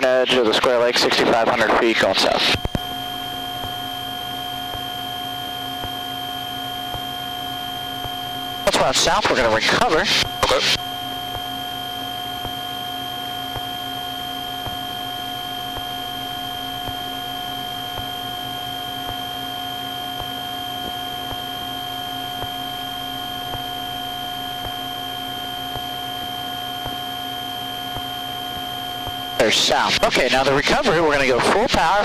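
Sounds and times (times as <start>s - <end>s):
airplane cabin hum: 2.3s - 31.6s.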